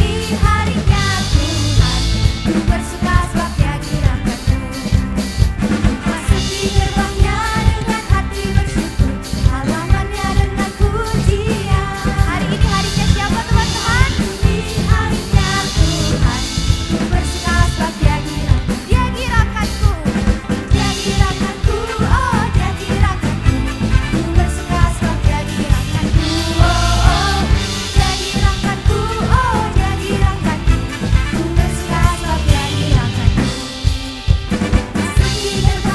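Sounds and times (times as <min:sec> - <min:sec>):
people singing: 0:00.0 - 0:19.4, 0:20.7 - 0:35.9
bass: 0:00.0 - 0:35.9
drum kit beat: 0:00.0 - 0:35.9
electric guitars: 0:00.0 - 0:35.9.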